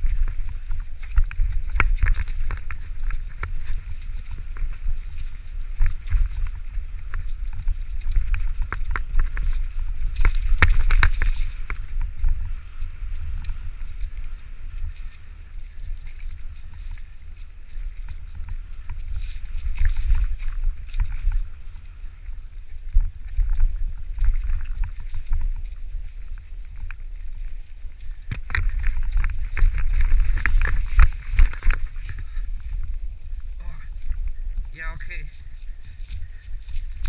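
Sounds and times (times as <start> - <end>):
bike rattling on rough trail: 0.0 - 37.0
wind buffeting microphone: 0.0 - 37.0.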